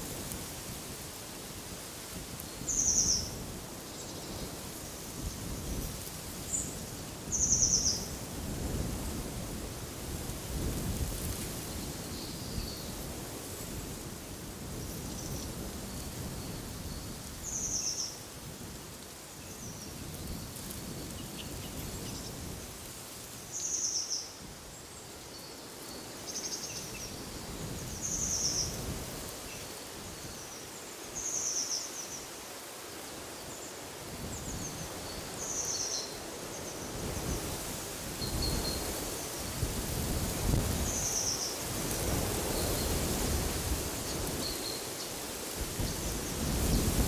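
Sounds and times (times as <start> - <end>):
wind gusting in trees: 0.0 - 47.0.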